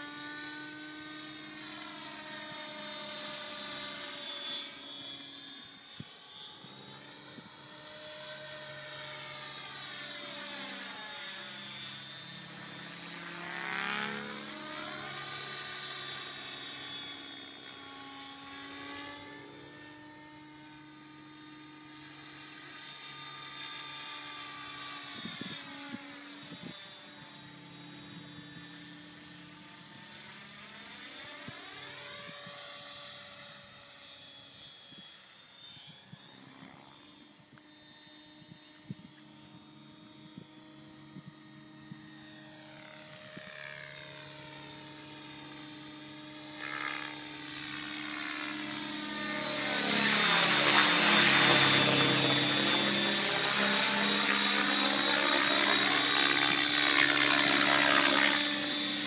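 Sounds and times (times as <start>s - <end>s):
rc helicopter rotor whine: 0.0s - 59.0s.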